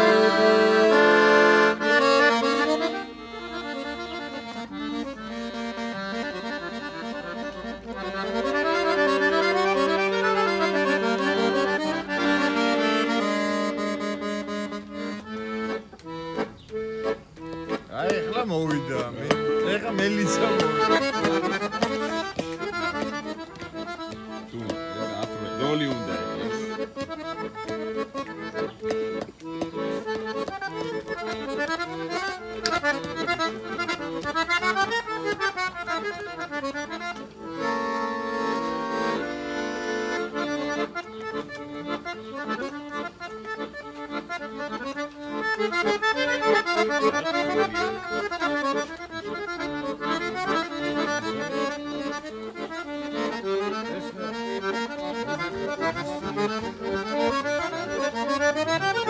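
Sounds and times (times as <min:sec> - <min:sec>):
piano accordion playing lively tune: 0:00.0 - 0:59.0.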